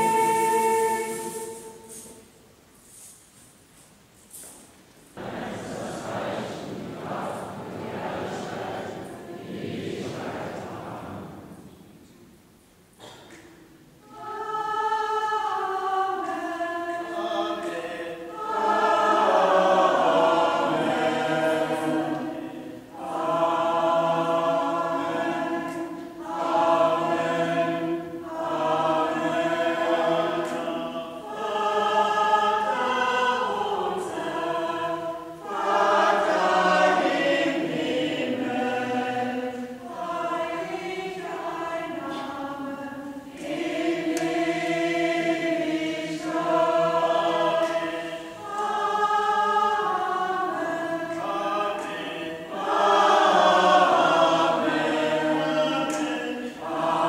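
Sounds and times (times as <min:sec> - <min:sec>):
church choir singing gospel: 0:00.0 - 0:03.6, 0:04.2 - 0:57.0.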